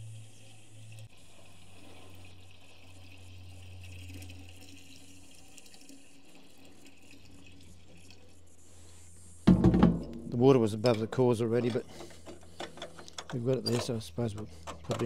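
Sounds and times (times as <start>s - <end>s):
water pouring into radiator: 0.0s - 9.4s, 10.2s - 15.0s
low steady hum: 0.0s - 15.0s.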